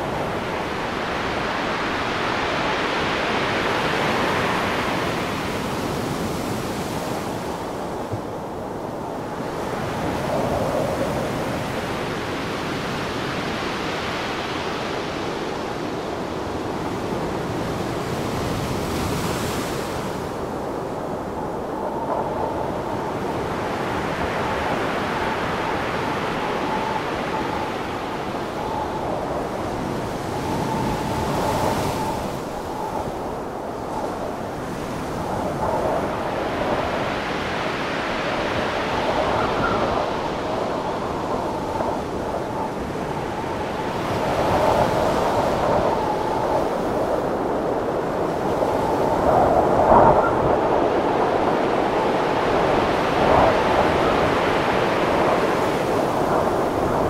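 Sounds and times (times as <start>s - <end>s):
strong wind blowing: 0.0s - 57.0s
waves washing onto sand: 0.0s - 57.0s.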